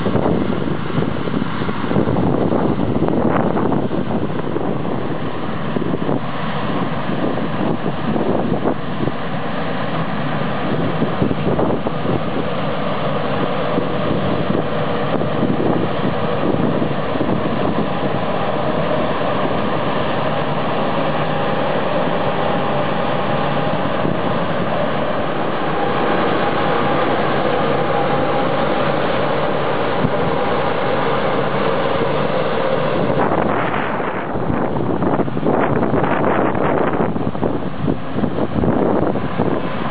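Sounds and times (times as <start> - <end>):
combine harvester droning: 0.0 - 39.9
faint steady whine: 0.0 - 39.9.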